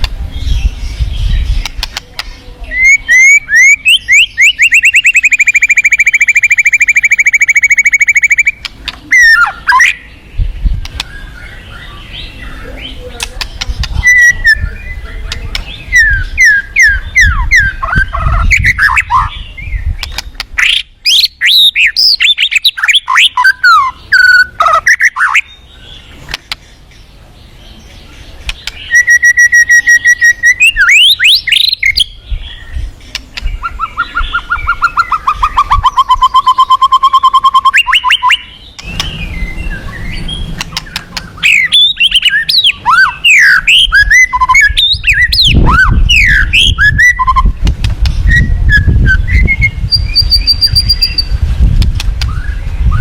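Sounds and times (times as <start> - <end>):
songbird trilling and whistling: 0.0 - 53.0.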